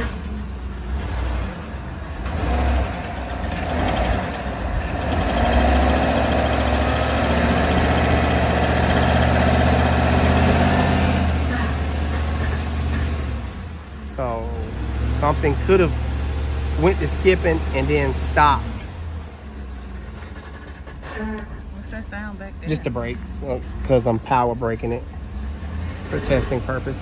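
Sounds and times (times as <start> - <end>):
engine revving under load: 0.0 - 27.0.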